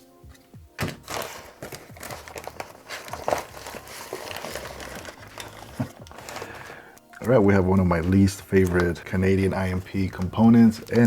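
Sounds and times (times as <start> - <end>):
food packets rustling and crinkling: 0.3 - 11.0.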